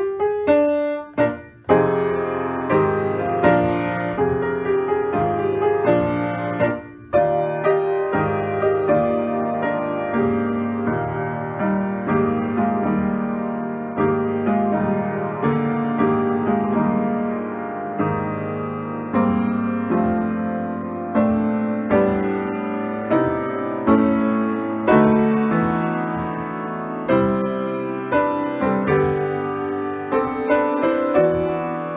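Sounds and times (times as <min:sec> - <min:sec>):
slow upright piano chords: 0:00.0 - 0:31.9.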